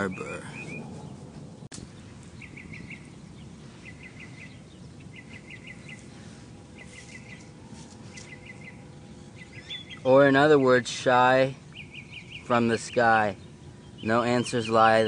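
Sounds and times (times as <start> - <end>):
outdoor background noise: 0.0 - 15.0
small bird chirping: 0.0 - 15.0.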